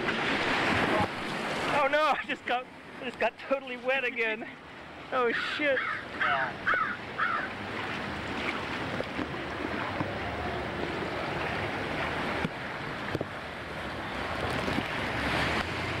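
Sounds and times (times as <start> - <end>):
rushing white water: 0.0 - 16.0.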